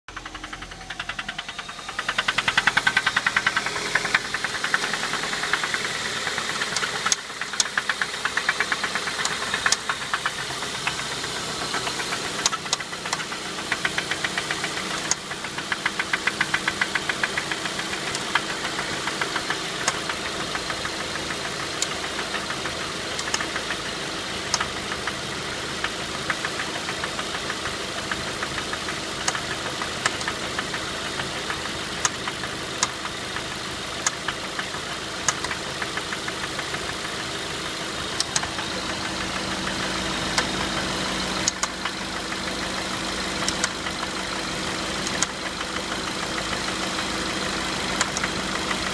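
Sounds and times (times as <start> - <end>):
car engine ticking-knocking: 0.0 - 48.9.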